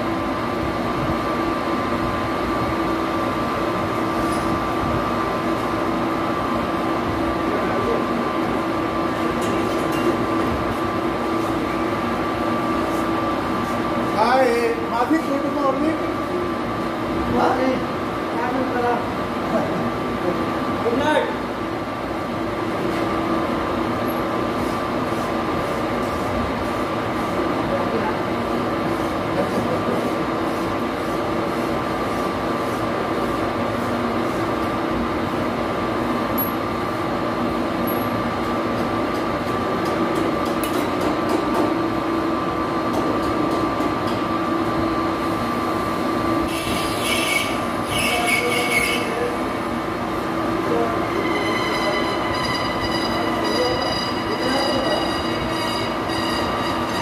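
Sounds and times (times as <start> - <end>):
lathe running with hum and whine: 0.0 - 41.1, 41.8 - 57.0.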